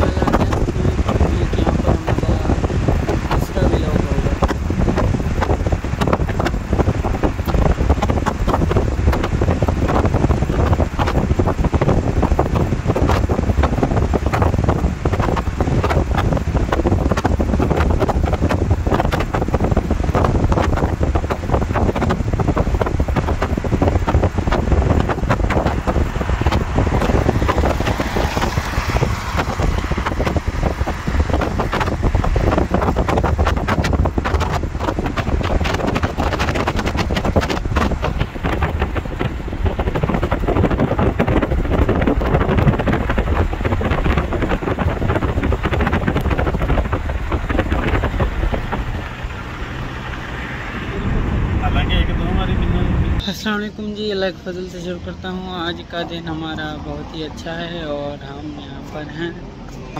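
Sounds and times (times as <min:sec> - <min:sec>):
road and tyre noise: 0:00.0 - 0:59.9
wind buffeting microphone: 0:00.0 - 0:59.9.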